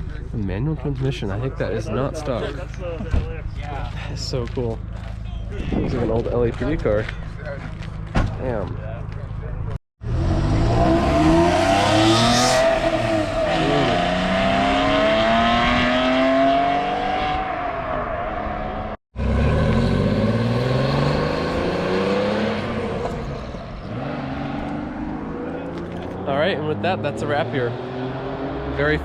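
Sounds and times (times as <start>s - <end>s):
car engine accelerating: 0.9s - 29.0s.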